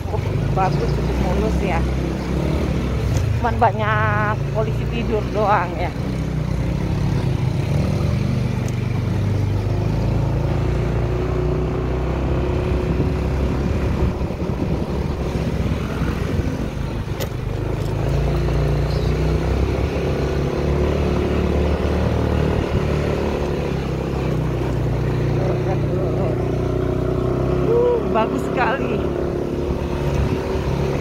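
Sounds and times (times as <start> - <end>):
motor scooter engine running: 0.0 - 31.0.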